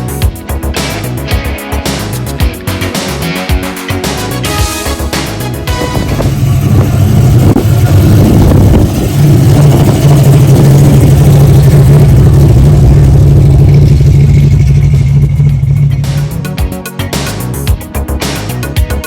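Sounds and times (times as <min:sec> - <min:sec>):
car engine revving: 0:00.6 - 0:16.6.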